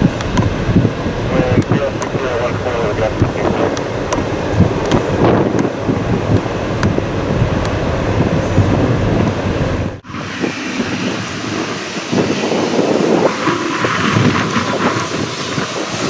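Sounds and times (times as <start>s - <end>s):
jet airliner engine noise: 0.0s - 16.0s
wind buffeting microphone: 0.0s - 16.0s.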